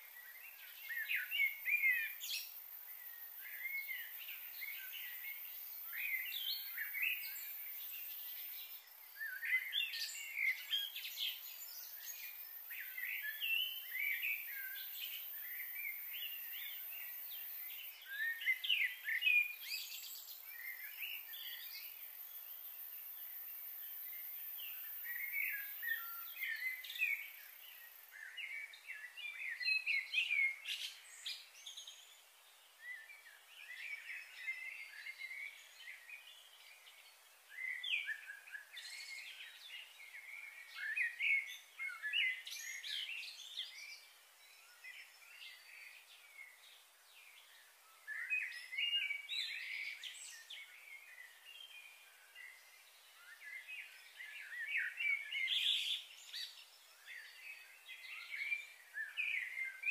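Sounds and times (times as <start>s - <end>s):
birds chirping and twittering: 0.0s - 59.9s
faint high-pitched hiss: 0.0s - 59.9s.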